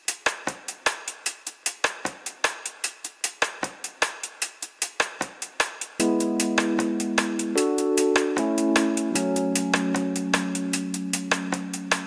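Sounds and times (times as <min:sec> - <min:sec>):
drum kit playing a beat: 0:00.0 - 0:12.0.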